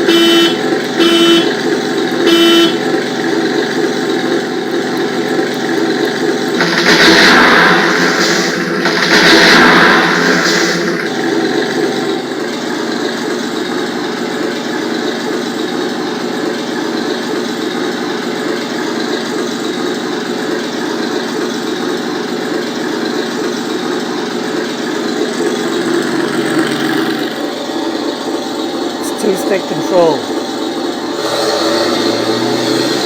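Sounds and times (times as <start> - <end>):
simulated tank engine idling: 0.0 - 33.0.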